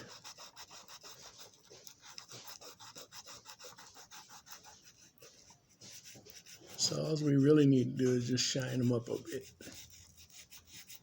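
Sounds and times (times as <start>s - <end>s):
sandpaper rubbing on metal: 0.0s - 11.0s.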